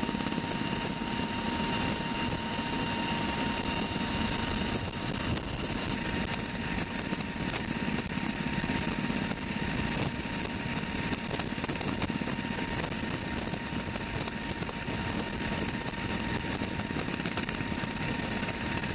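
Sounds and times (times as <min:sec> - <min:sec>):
thin steady whine: 0:00.0 - 0:18.9
turboprop engines droning: 0:00.0 - 0:18.9.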